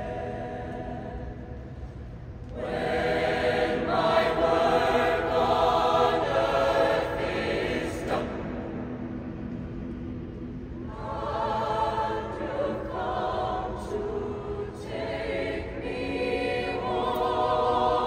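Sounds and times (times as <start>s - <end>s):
mixed choir singing: 0.0s - 1.8s, 2.5s - 9.4s, 10.8s - 18.0s.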